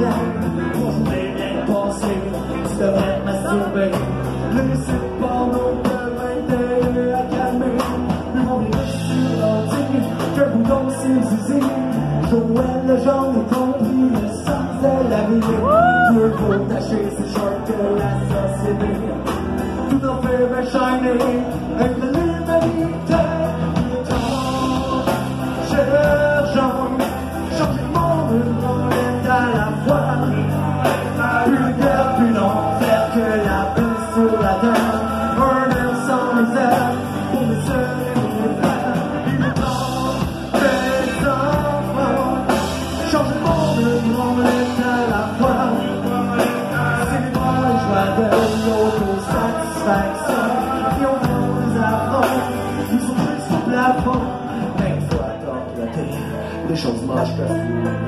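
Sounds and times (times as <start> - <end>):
person singing: 0.0 - 58.0
rock band playing: 0.0 - 58.0.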